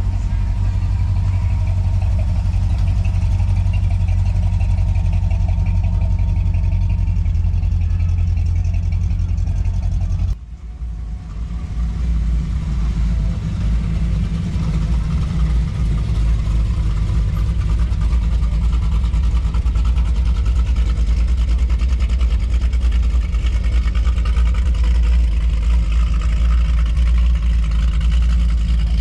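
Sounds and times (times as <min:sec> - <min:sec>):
car engines rolling past: 0:00.0 - 0:29.0
engine with varying pitch: 0:00.0 - 0:29.0.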